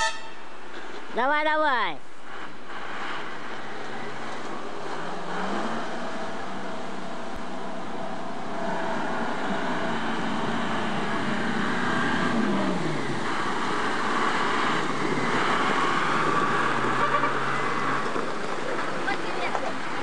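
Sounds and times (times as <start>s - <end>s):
rushing river water: 2.1s - 20.0s
water spray from wheels: 2.1s - 20.0s.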